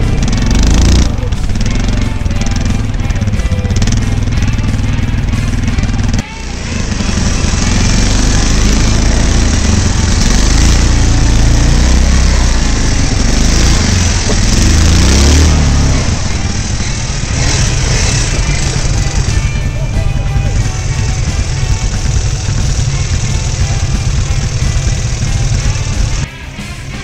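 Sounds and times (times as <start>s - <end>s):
loud rough noise: 0.0s - 27.0s
quad bike engine revving: 0.0s - 27.0s.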